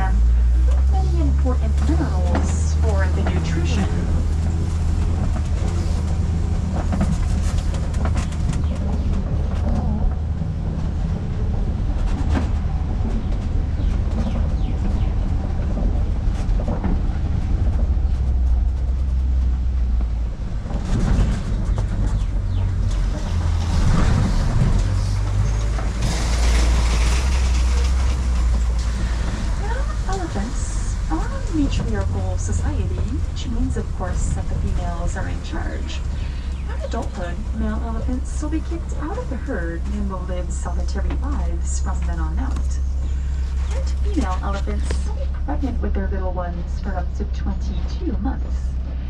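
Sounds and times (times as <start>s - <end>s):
vehicle engine drone: 0.0s - 49.0s
vehicle rattling: 0.0s - 49.0s.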